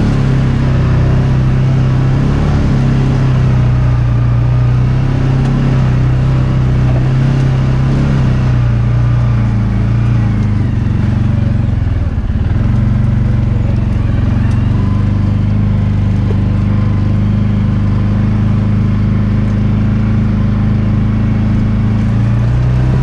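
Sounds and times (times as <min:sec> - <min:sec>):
single-cylinder engine running: 0:00.0 - 0:23.0.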